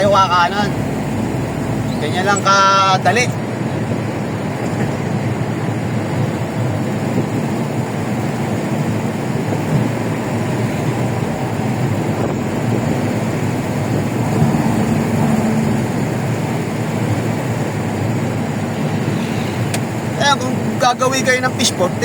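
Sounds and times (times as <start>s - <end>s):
faint engine hum: 0.0s - 22.0s
road and wind noise: 0.0s - 22.0s.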